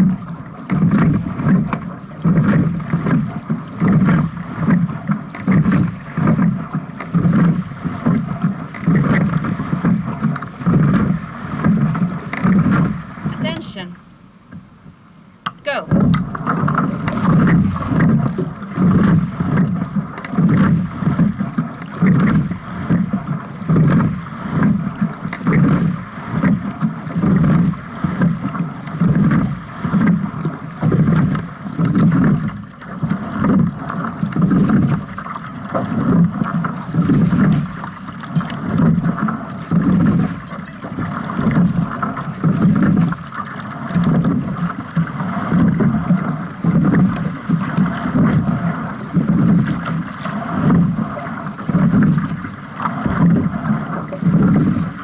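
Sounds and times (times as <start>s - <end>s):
water rushing along hull: 0.0s - 55.0s.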